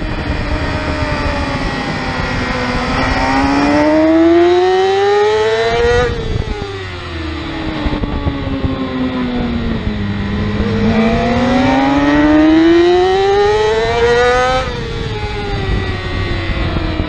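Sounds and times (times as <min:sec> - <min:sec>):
motorcycle engine at racing speed: 0:00.0 - 0:17.0
wind rushing over microphone: 0:00.0 - 0:17.0.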